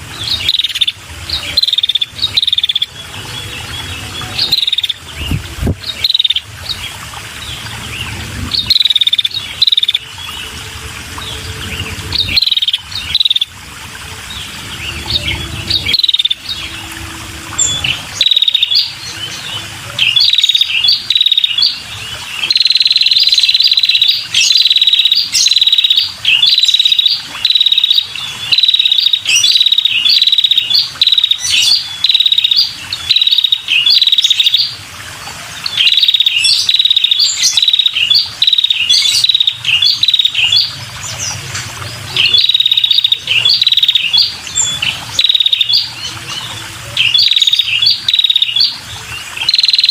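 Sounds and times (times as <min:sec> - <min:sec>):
bird singing trilled notes: 0:00.0 - 0:10.6, 0:11.2 - 0:34.8, 0:35.6 - 0:49.9.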